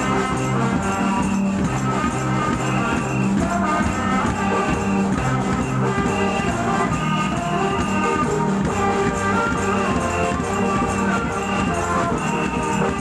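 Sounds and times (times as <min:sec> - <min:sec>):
procession band playing melody: 0:00.0 - 0:13.0.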